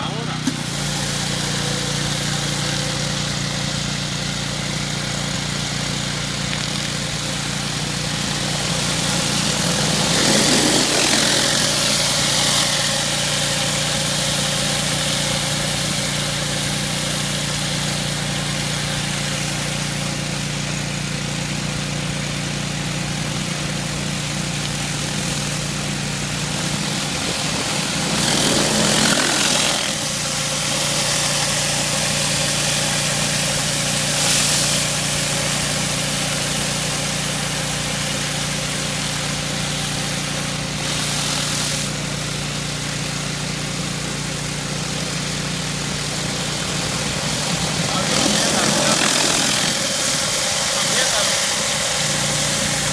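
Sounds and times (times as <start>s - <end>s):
pressure washer engine running: 0.0s - 52.9s
high-pressure water spray hissing: 0.4s - 52.9s.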